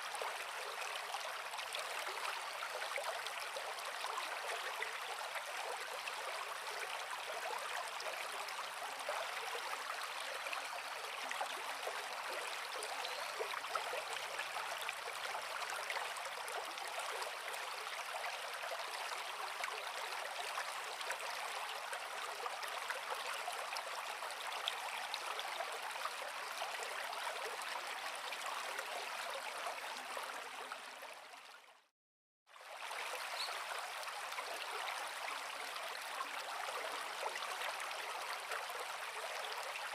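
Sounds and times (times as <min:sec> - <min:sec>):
creek water flowing over rocks: 0:00.0 - 0:31.9, 0:32.5 - 0:39.9.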